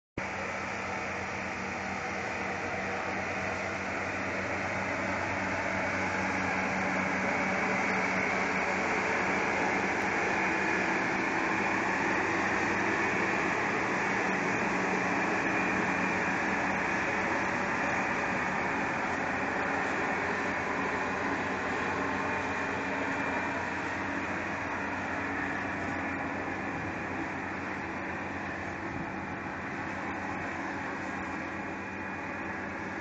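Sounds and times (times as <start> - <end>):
low engine hum: 0.2 - 33.0.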